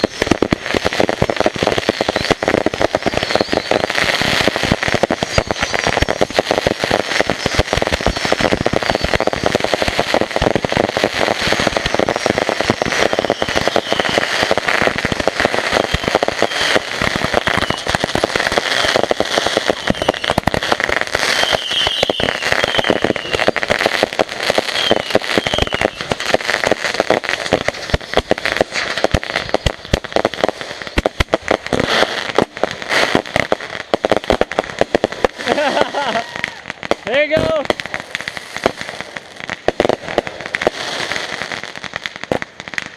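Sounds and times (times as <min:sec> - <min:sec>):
firework whistles: 0:00.0 - 0:00.4, 0:01.2 - 0:37.8
firecrackers crackling: 0:00.0 - 0:42.9.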